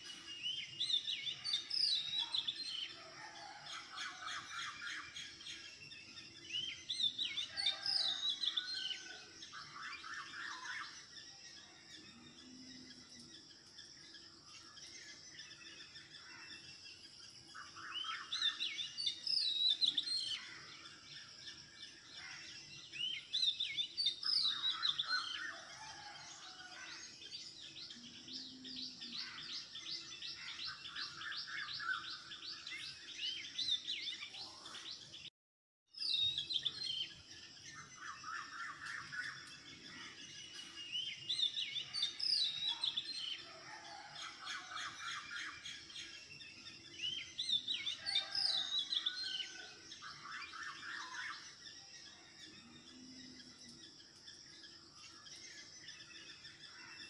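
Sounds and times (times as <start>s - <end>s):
birds chirping and trilling: 0.0s - 35.3s, 35.9s - 57.0s.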